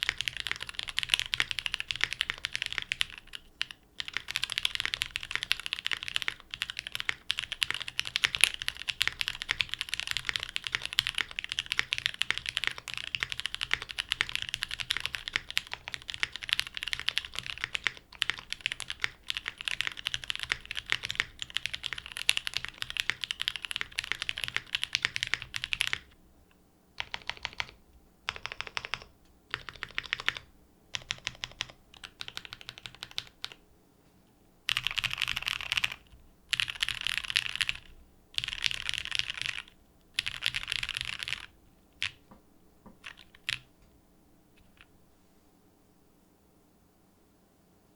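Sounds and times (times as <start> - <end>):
mechanical keyboard typing: 0.0 - 26.2, 27.0 - 33.6, 34.7 - 42.3, 42.9 - 43.7.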